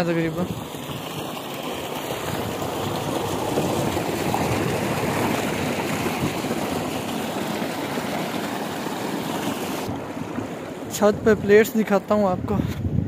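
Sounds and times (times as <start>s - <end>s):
water gushing from a pipe: 0.0s - 11.3s
water splashing into a concrete tank: 0.0s - 11.5s.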